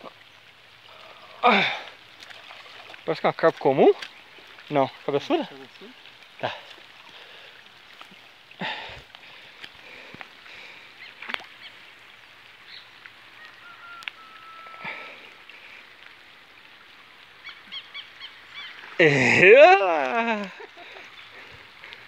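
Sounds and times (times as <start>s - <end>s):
rain falling on pond: 0.0s - 22.0s.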